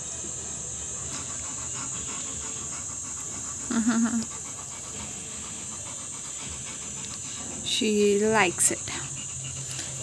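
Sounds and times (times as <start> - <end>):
dog panting: 0.1 - 10.0.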